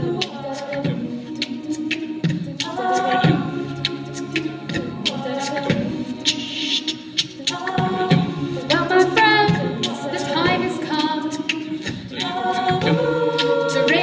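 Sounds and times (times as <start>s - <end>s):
vocal ensemble singing in harmony: 0.0s - 14.0s.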